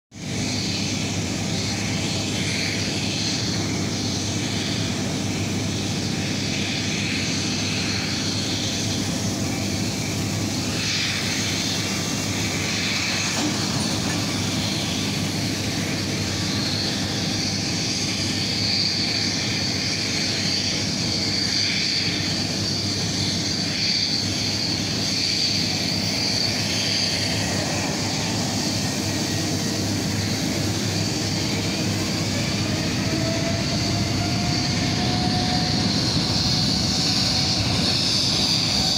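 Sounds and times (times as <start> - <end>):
turbine engines rumble and whine: 0.1 - 38.9.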